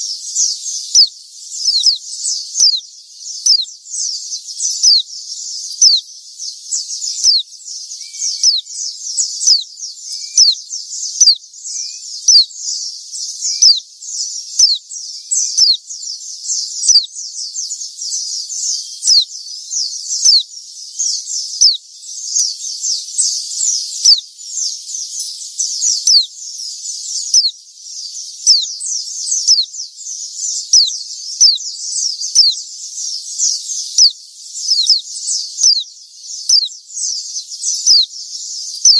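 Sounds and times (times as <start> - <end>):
birds chirping rapidly: 0.0 - 38.9.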